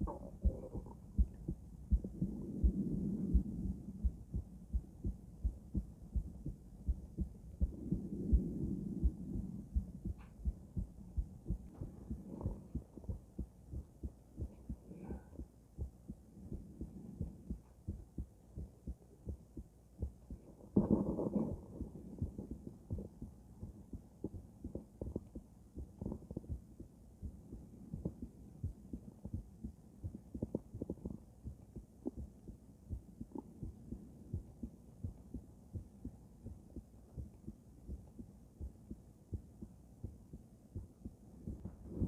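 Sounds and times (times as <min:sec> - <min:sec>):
heartbeat through stethoscope: 0:00.0 - 0:42.0.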